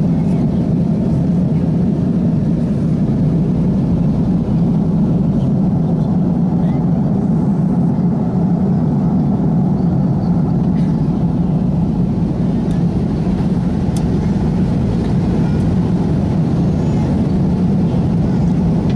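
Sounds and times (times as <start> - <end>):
airliner engines and rushing air: 0.0 - 18.9.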